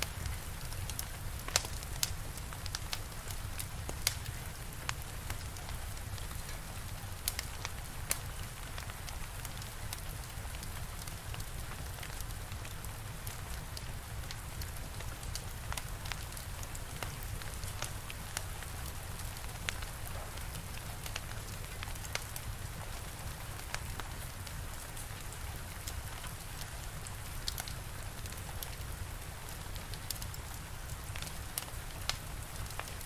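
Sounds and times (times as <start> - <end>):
steady rain: 0.0 - 33.0
wood fire crackling: 0.0 - 33.0.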